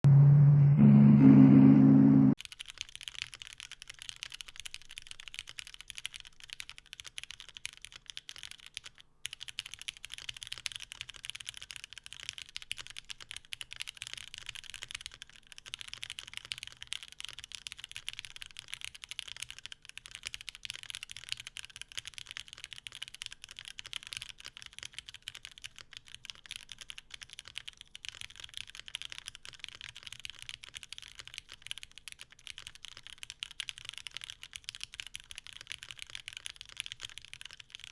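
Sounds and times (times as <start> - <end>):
mechanical keyboard typing: 2.4 - 37.9.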